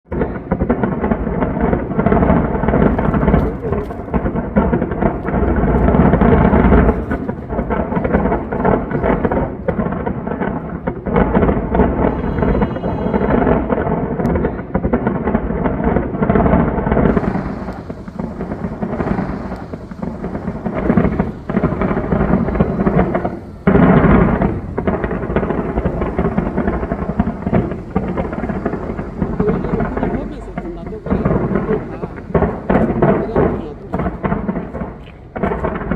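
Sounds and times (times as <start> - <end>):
fireworks booms and crackles: 0.0 - 35.9.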